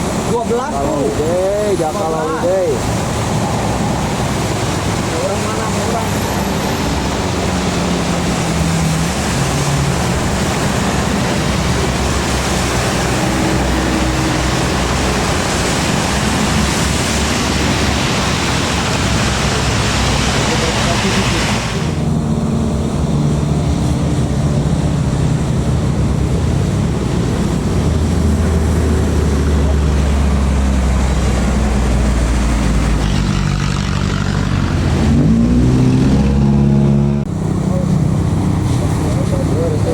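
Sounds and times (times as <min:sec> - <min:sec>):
heavy vehicles passing: 0:00.0 - 0:39.9
low engine hum: 0:00.0 - 0:39.9
road noise: 0:00.0 - 0:39.9.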